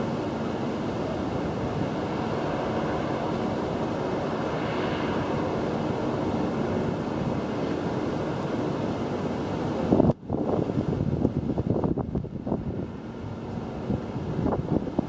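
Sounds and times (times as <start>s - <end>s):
ferry engine drone: 0.0s - 15.0s
wind on microphone: 0.0s - 15.0s.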